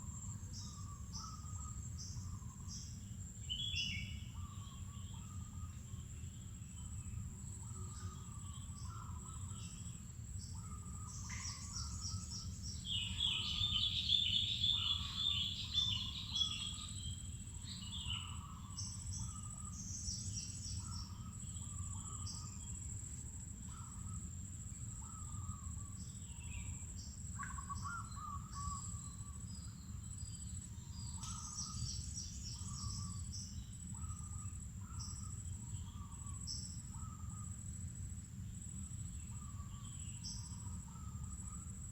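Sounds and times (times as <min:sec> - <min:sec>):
wild birds calling and singing: 0:00.0 - 0:37.7, 0:38.4 - 0:41.9.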